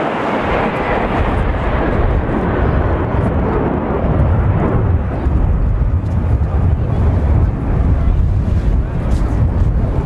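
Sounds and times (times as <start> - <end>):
jet engines flying past: 0.0 - 10.0.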